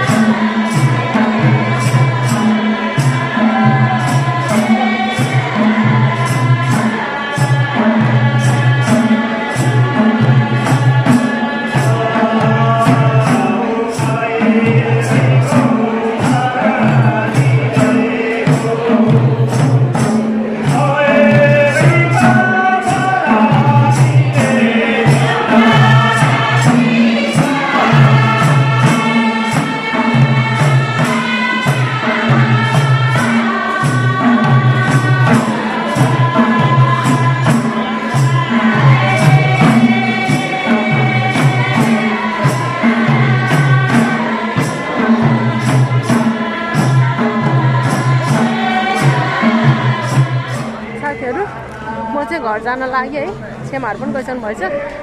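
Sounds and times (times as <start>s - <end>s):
hand drums beating: 0.0s - 51.5s
group singing folk song: 0.0s - 52.7s.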